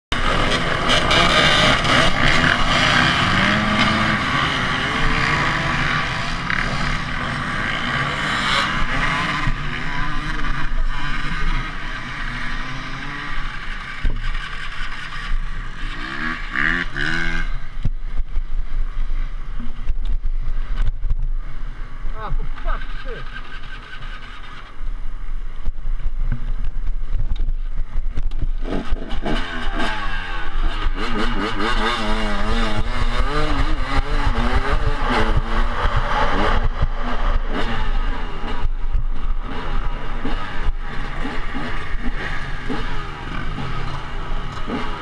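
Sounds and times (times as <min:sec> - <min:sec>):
dirt bike engines revving: 0:00.1 - 0:45.0.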